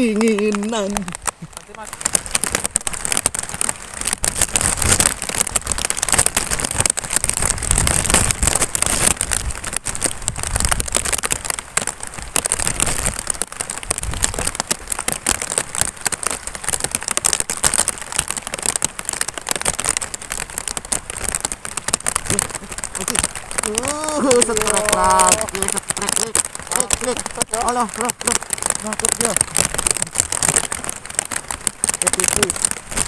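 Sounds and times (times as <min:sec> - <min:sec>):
heavy rain on water: 0:00.0 - 0:33.0.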